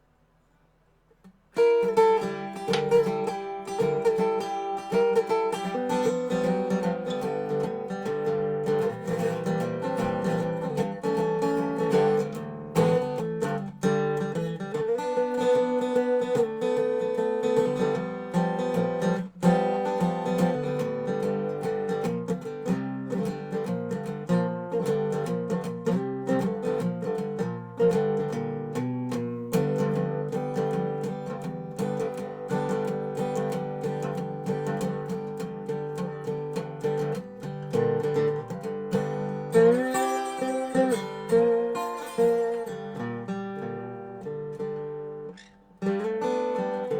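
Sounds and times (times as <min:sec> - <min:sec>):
resonator guitar plucked: 0:01.6 - 0:46.9.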